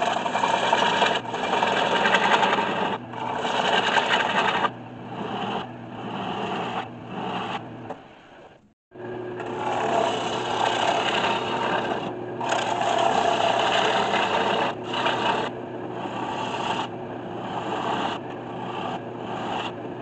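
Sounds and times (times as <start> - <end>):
lathe humming: 0.0 - 7.9, 9.0 - 20.0
gouge scraping spinning wood: 0.0 - 8.2, 9.0 - 20.0.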